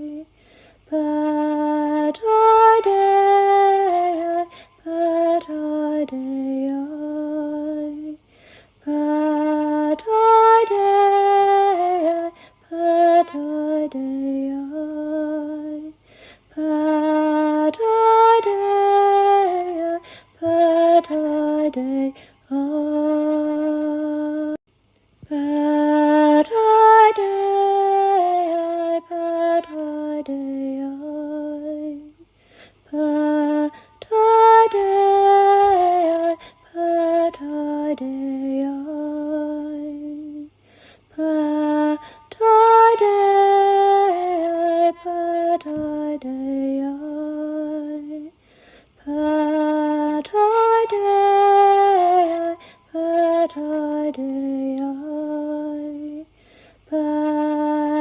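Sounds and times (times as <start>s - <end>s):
woman singing wordless chant: 0.0s - 24.6s, 25.2s - 58.0s.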